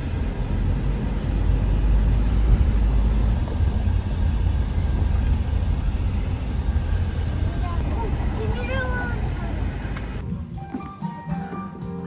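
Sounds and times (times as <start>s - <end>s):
car driving low rumble: 0.0s - 10.6s.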